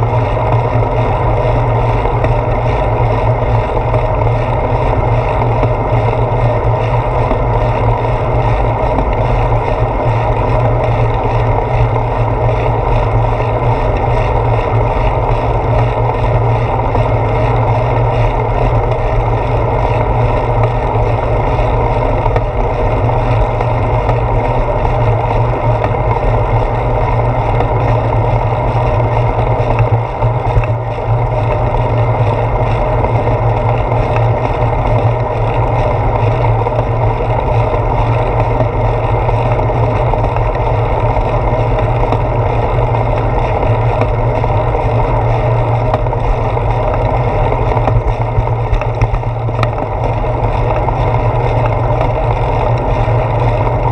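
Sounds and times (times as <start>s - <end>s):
bicycle road rumble: 0.0s - 53.9s
wind: 0.0s - 53.9s.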